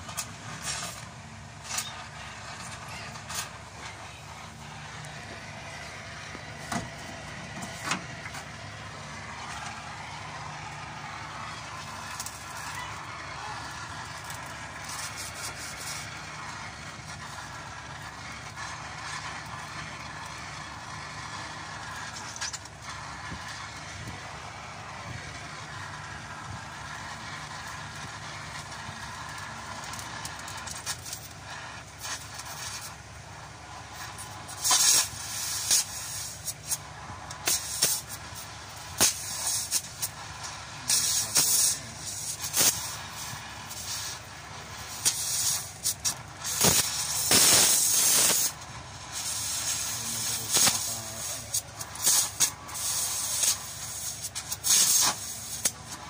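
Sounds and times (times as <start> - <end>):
welding torch flame hissing: 0.0 - 56.0.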